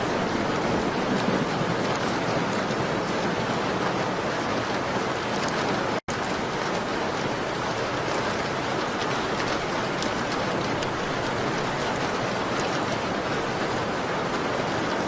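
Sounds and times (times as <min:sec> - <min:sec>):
rain on a window pane: 0:00.0 - 0:15.0.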